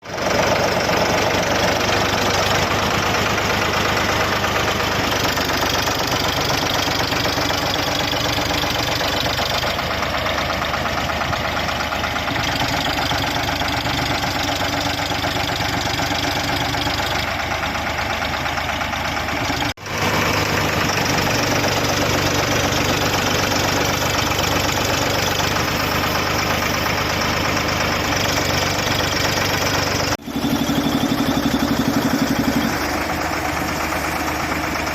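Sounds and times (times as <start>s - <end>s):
air compressor engine running: 0.0s - 34.9s.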